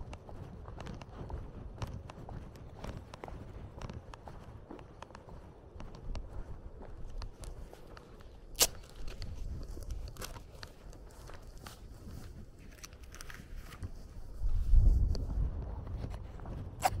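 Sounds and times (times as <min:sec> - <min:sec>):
footsteps walking: 0:00.0 - 0:17.0.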